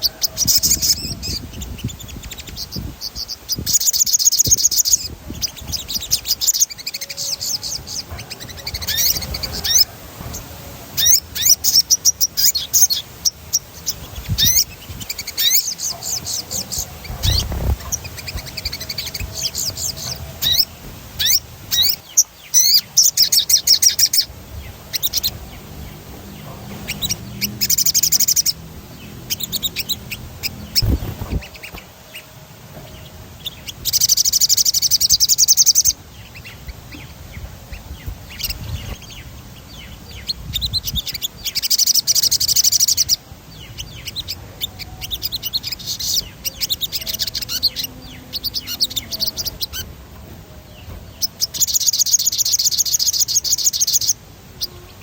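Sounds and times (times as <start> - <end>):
songbird rolling trills: 0.0 - 54.9.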